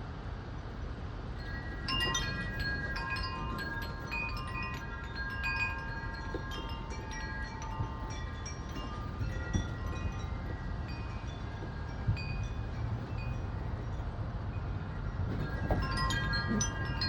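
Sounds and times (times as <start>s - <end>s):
gusting storm wind: 0.3s - 17.0s
wind chimes ringing: 1.4s - 17.0s.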